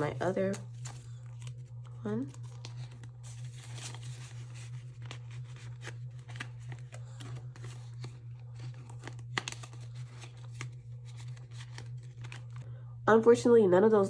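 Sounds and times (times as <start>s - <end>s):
paper and plastic sleeves rustling: 0.0s - 12.7s
steady low hum: 0.0s - 14.0s.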